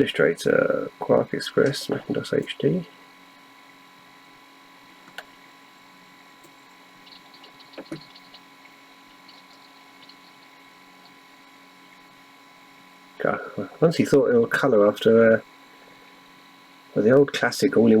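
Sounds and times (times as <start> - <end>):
computer fan and hard drive hum: 0.0 - 18.0.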